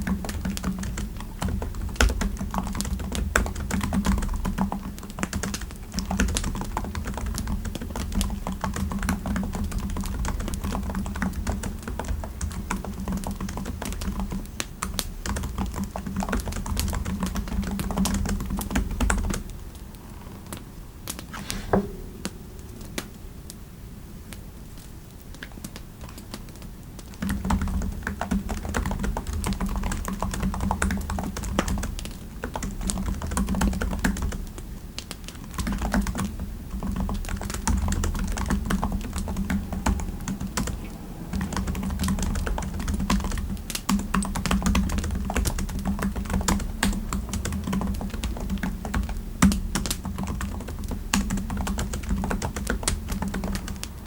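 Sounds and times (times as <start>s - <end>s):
typing on computer keyboard: 0.0s - 19.4s, 27.2s - 34.4s, 35.0s - 54.0s.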